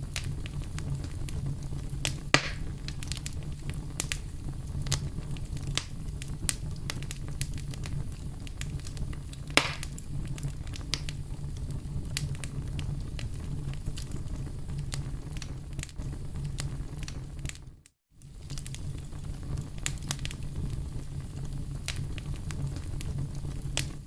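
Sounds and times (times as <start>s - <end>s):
loud fire pops: 0.0s - 24.0s
low rumble of flames: 0.0s - 24.0s
wood fire crackling: 0.0s - 24.0s.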